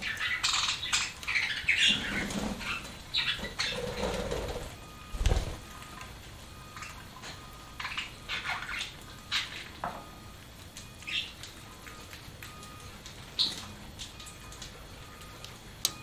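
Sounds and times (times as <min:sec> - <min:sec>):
birds pecking and nibbling: 0:00.0 - 0:16.0.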